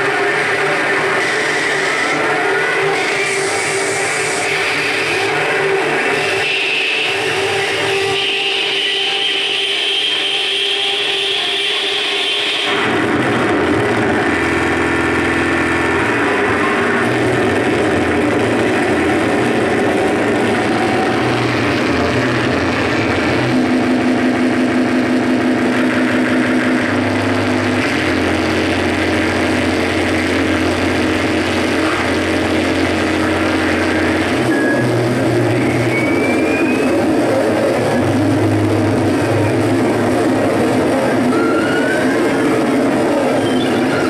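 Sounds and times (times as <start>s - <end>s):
droning noise music: 0.0s - 44.0s.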